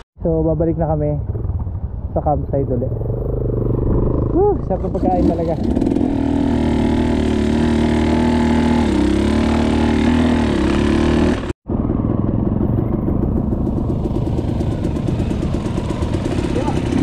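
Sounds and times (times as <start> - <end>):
dirt bike engine running: 0.9 - 17.0.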